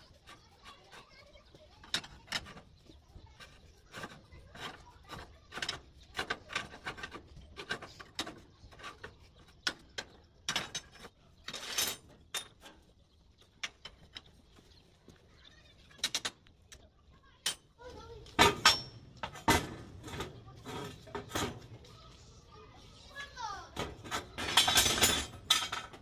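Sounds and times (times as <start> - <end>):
metal scraping on metal: 0.0 - 12.9, 17.5 - 26.0.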